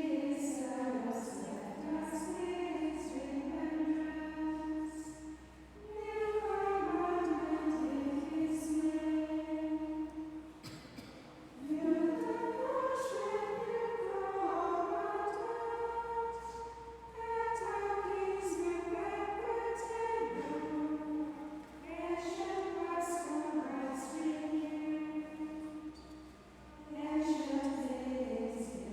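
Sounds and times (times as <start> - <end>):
nuns singing chant: 0.0 - 10.6, 11.6 - 28.9.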